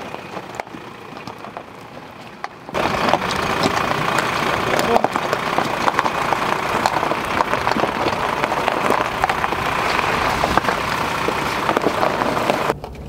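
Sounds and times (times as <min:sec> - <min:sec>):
tyres crunching over gravel: 0:00.0 - 0:13.0.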